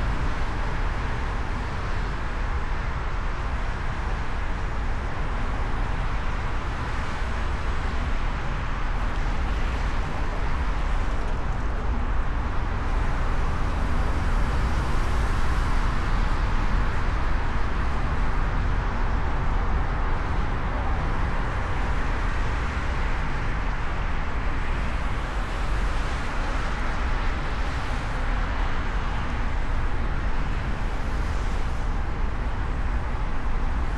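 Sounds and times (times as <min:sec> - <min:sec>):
car road noise: 0:00.0 - 0:33.9
surrounding traffic hum: 0:00.0 - 0:33.9.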